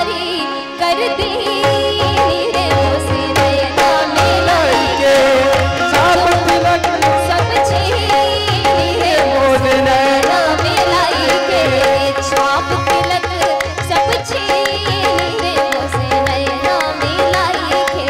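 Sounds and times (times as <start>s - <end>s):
harmonium: 0.0s - 18.0s
woman singing: 0.0s - 18.0s.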